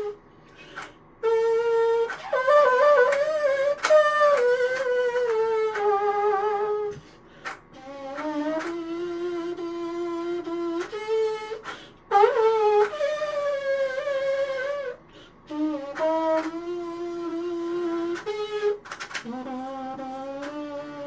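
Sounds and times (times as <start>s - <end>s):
trumpet playing held notes: 1.2s - 7.0s, 7.8s - 15.0s, 15.6s - 21.0s.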